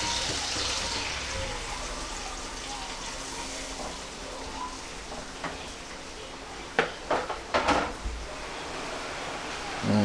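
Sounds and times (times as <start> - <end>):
food simmering in frying pan: 0.0 - 10.0.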